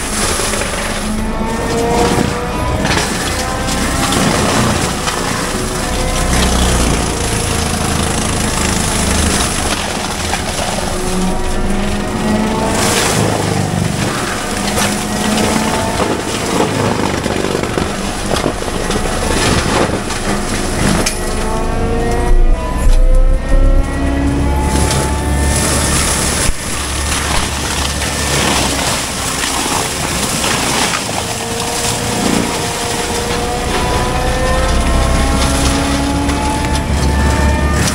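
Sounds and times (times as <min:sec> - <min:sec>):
diesel engine under changing load: 0:00.0 - 0:37.9.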